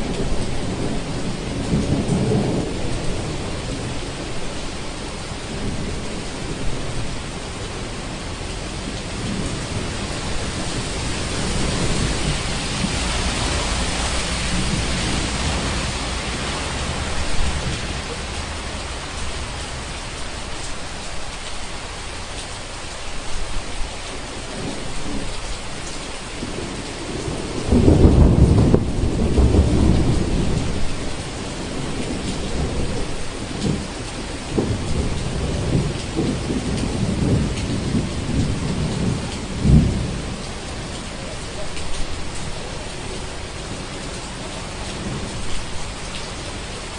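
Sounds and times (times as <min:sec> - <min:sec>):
heavy rain: 0:00.0 - 0:46.9
thunder rumbling: 0:00.0 - 0:46.9.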